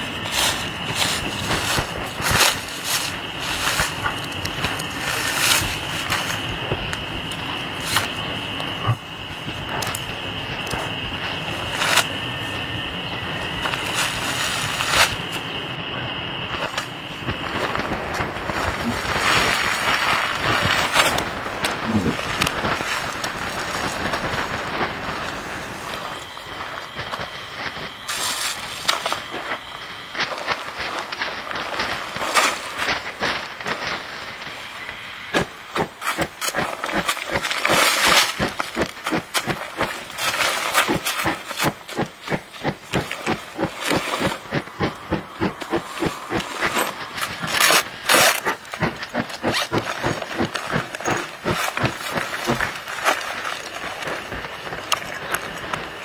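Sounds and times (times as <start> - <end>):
fabric and tarp rustling: 0.0 - 8.2, 13.3 - 15.4, 17.4 - 34.7, 35.4 - 56.0
sharp crackles of tarp: 0.0 - 15.8, 16.5 - 56.0.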